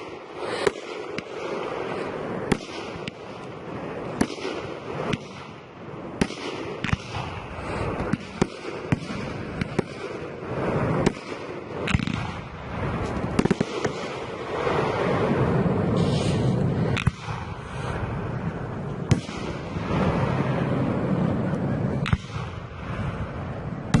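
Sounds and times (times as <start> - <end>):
firework crackle: 0.0 - 24.0.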